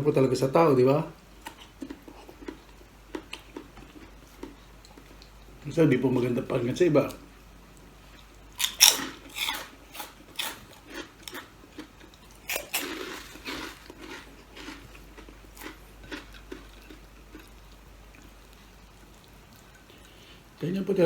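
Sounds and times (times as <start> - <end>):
crunching and chewing crisp food: 0.9 - 20.7.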